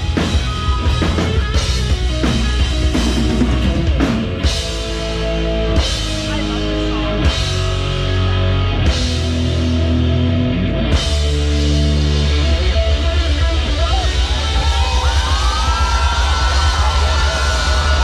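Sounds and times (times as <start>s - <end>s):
driving drum beat: 0.0s - 18.0s
electric guitars playing chords: 0.0s - 18.0s
heavy bass: 0.0s - 18.0s.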